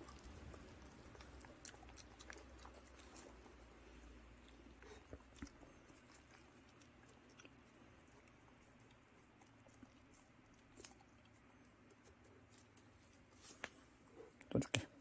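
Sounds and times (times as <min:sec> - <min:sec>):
dogs chewing and licking: 0:00.0 - 0:15.0.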